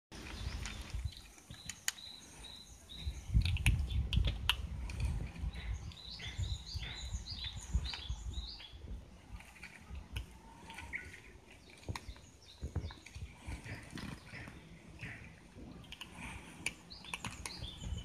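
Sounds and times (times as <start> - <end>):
small birds chirping: 0.1 - 18.0
kittens crunching dry kibble: 0.2 - 18.0.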